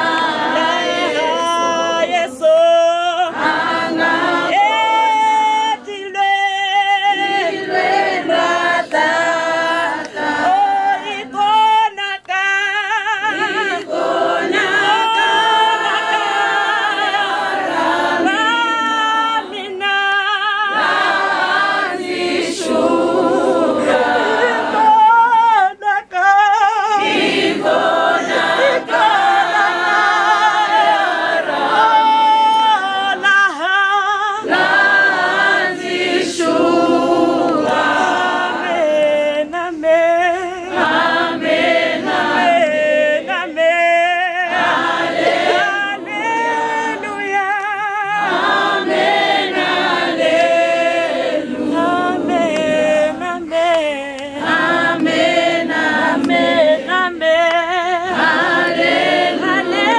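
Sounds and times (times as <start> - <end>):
mourners singing unaccompanied: 0.0 - 59.9.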